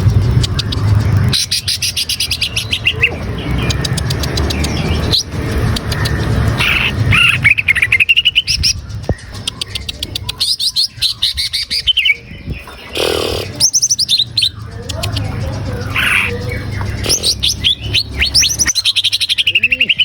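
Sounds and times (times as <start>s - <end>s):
bird chattering ticks: 0.0s - 20.0s
bird whistling song: 0.0s - 20.0s.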